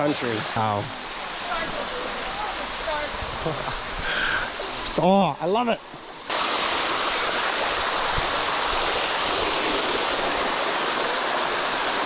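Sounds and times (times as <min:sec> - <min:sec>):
waterfall rushing over rock: 0:00.0 - 0:12.0.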